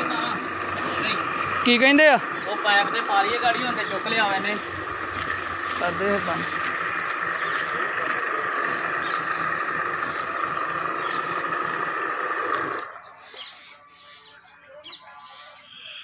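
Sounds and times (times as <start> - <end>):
water pump motor running: 0.0 - 13.2.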